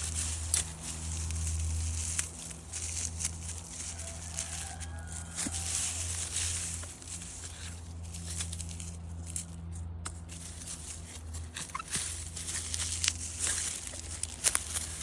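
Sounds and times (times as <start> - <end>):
rustling and crackling: 0.0 - 15.0
steady low hum: 0.0 - 15.0.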